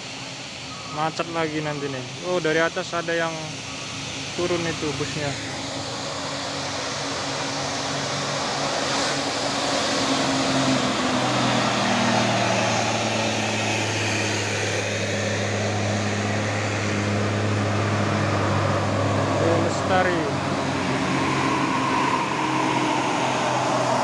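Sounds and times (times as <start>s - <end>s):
bus diesel engines droning: 0.0s - 24.0s.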